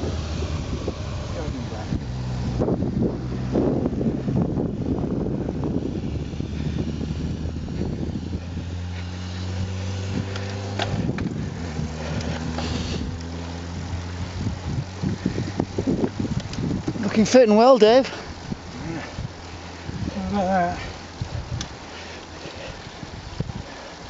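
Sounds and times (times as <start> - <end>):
motorcycle engine hum: 0.0 - 24.0
wind buffeting microphone: 0.0 - 24.0.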